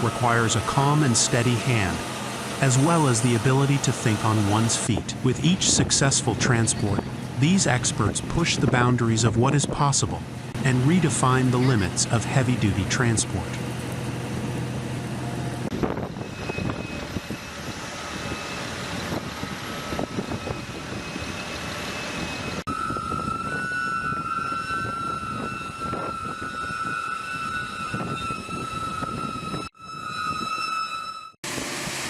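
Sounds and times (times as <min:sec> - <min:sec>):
steady high whine: 0:00.0 - 0:32.0.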